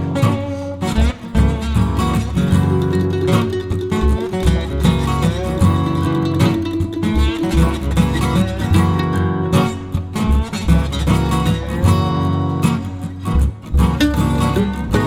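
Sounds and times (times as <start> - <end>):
acoustic guitar music with beat: 0.0 - 15.0.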